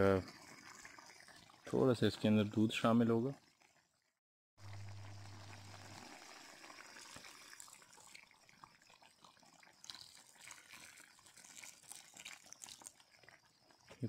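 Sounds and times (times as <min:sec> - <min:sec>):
curry bubbling in a pot: 0:00.0 - 0:14.0
milk pouring: 0:00.0 - 0:14.0.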